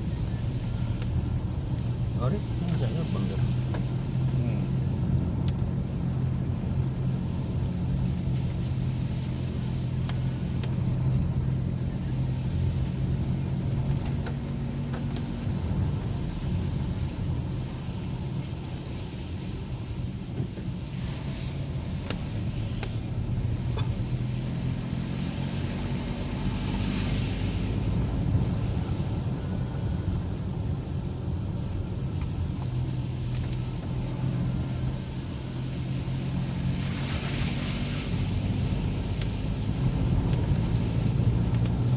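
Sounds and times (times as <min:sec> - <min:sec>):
car engine hum: 0:00.0 - 0:41.9
tyre road noise: 0:00.0 - 0:41.9.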